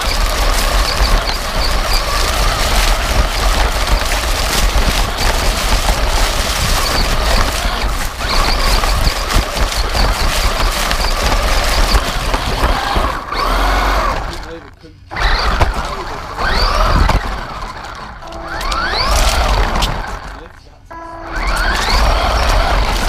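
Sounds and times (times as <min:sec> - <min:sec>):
toy truck body rattling: 0:00.0 - 0:20.6, 0:21.4 - 0:23.0
electric motor whining: 0:00.0 - 0:23.0.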